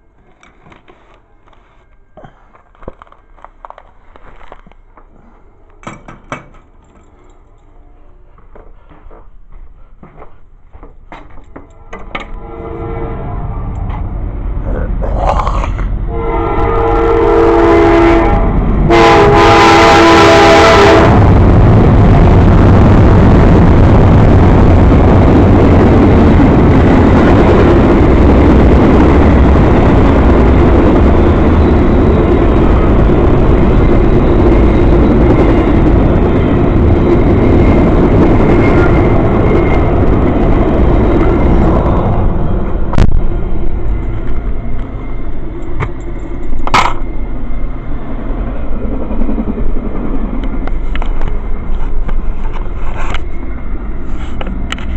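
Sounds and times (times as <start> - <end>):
train rumbling past: 0.0 - 54.9.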